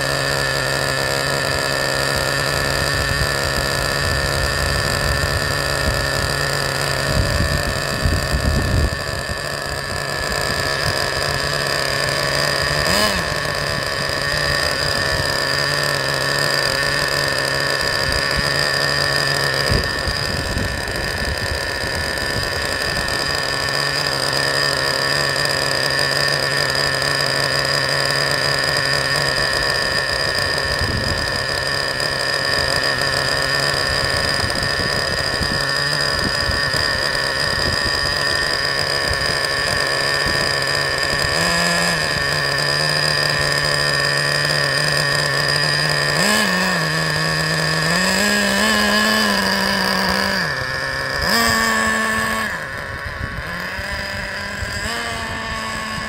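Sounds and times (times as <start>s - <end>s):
model engine idling and revving: 0.0s - 56.0s.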